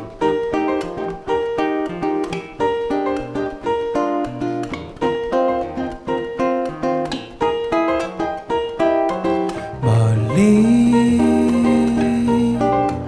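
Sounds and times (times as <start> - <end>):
acoustic guitar strumming: 0.0 - 13.0
keyboard piano chords: 0.0 - 13.0.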